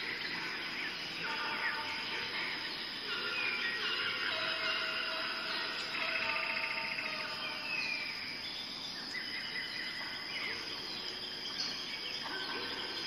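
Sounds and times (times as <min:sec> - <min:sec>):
birds chirping and whistling: 0:00.0 - 0:13.0
insects chirring: 0:00.0 - 0:13.0.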